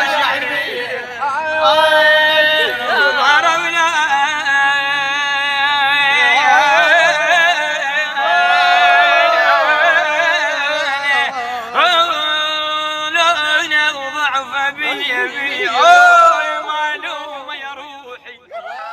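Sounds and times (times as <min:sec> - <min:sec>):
man singing with vibrato: 0:00.0 - 0:18.9.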